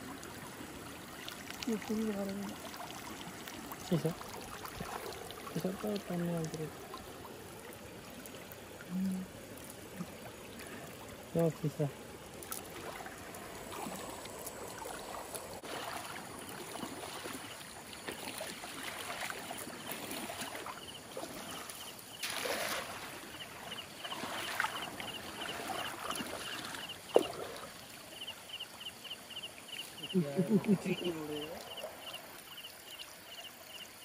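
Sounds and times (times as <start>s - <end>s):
wading through shallow water: 0.0s - 34.0s
insect calling in pulses: 1.1s - 34.0s.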